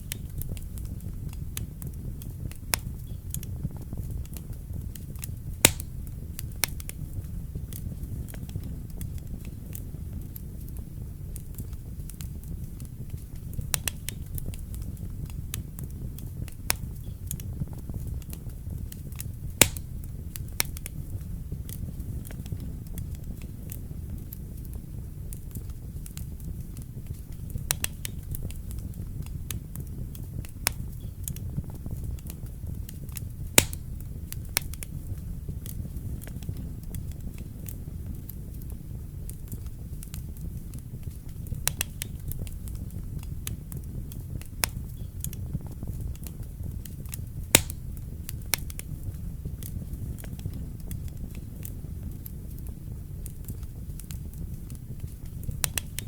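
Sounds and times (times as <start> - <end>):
fire crackling and popping: 0.0 - 56.0
fire flames rumbling: 0.0 - 56.0.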